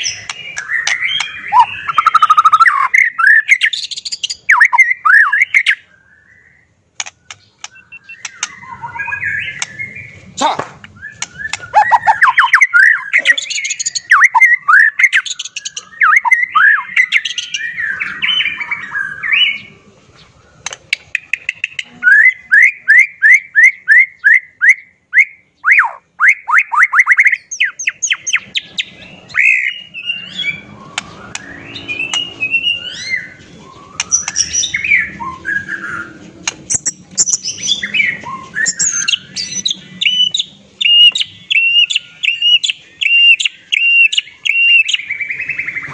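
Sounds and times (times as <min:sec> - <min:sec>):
bird singing varied song: 0:00.0 - 0:45.9.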